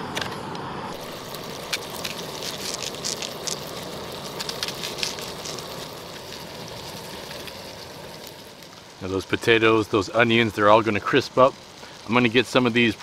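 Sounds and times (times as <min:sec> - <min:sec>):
potatoes sizzling in a pan: 0:00.9 - 0:13.0
sharp crackles of frying: 0:00.9 - 0:13.0.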